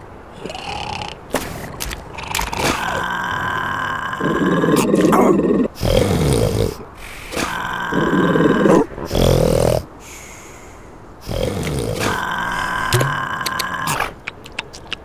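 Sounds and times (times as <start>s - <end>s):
cartoon seal grunting: 0.4s - 9.8s, 11.2s - 15.0s.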